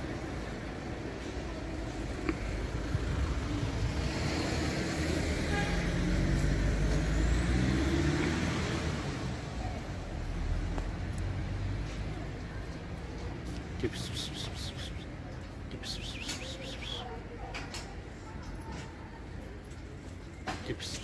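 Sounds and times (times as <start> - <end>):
vehicle passing on street: 0.0 - 17.3, 19.2 - 21.0.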